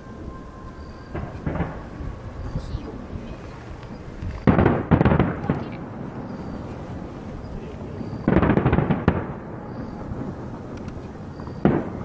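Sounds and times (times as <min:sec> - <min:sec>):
fireworks bursting: 0:00.0 - 0:12.0
low rumble of echoes: 0:00.0 - 0:12.0.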